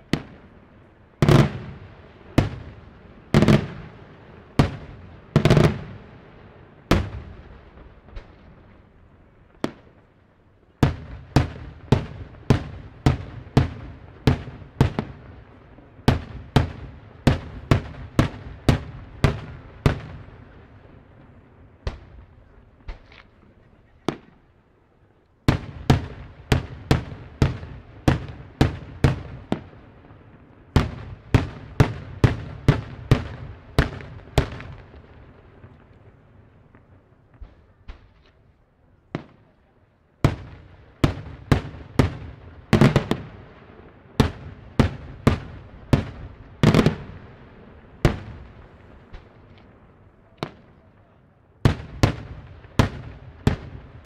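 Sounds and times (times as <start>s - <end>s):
fireworks bangs: 0.0s - 10.1s, 10.8s - 24.6s, 25.4s - 39.6s, 40.2s - 54.0s.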